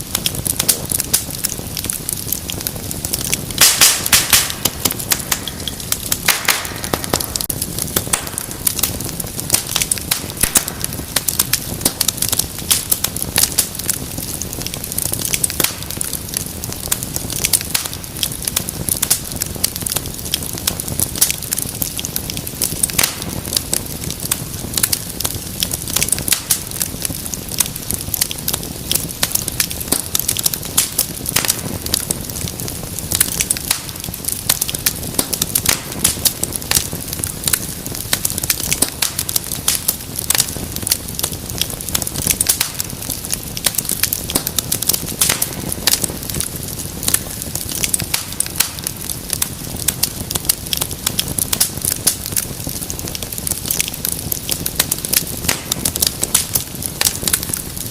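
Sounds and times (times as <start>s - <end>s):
fire crackling: 0.0s - 57.9s
low rush of flame: 0.0s - 57.9s.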